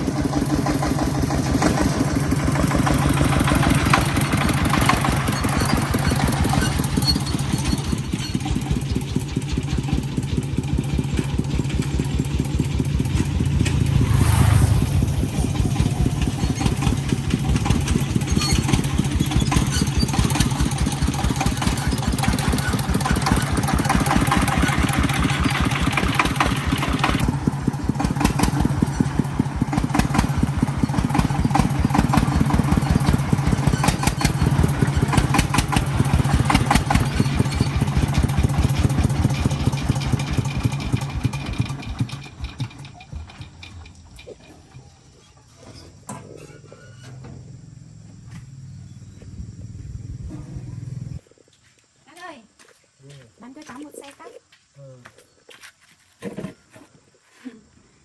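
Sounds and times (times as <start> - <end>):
farm vehicle engine running: 0.0 - 45.8, 46.5 - 51.2.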